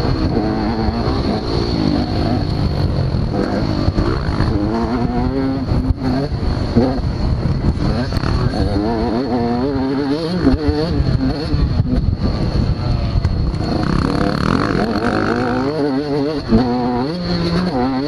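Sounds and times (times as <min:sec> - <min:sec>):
motocross engines revving: 0:00.0 - 0:18.0.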